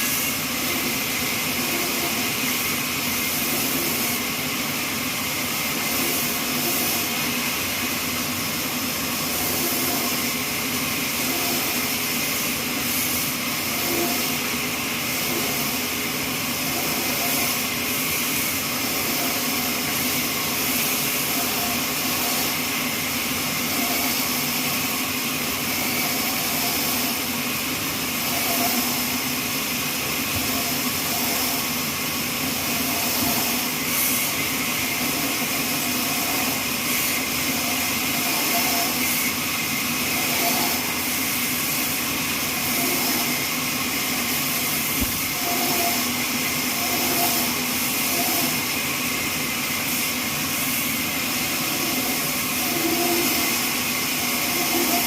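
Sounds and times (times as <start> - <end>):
bandsaw mill running: 0.0 - 55.0.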